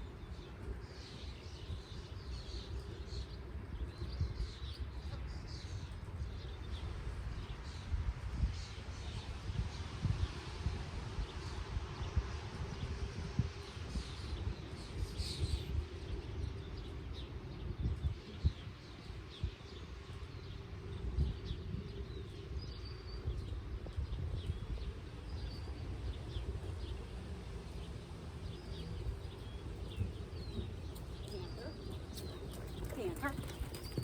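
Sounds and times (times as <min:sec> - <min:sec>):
small birds chirping: 0:00.0 - 0:10.5, 0:11.2 - 0:34.0.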